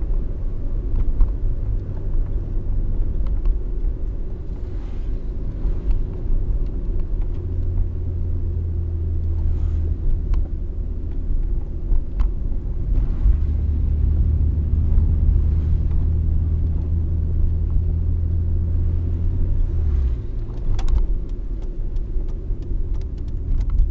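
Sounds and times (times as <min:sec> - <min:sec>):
engine and road noise rumble: 0:00.0 - 0:23.9.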